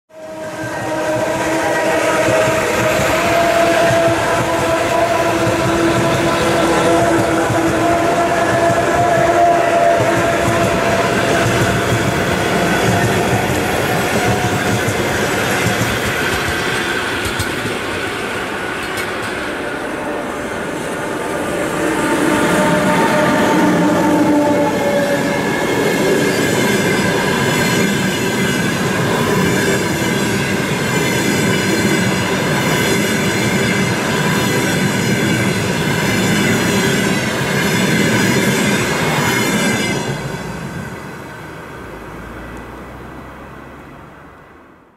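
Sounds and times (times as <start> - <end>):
train wheels clattering over rails: 0.6 - 41.3.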